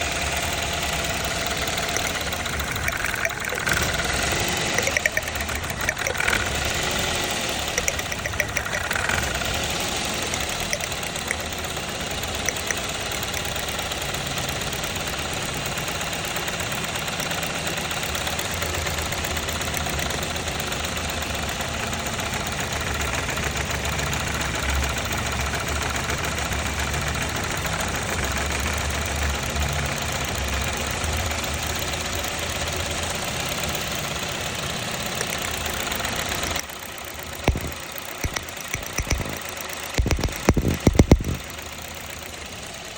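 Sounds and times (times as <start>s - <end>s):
engine ticks or knocks: 0.0s - 42.4s
car engine idling: 0.0s - 42.9s.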